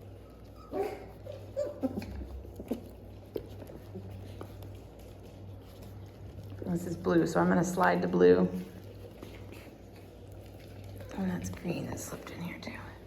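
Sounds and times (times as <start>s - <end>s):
puppy vocal sounds: 0.0s - 12.4s
light pattering and clicks: 0.0s - 13.0s.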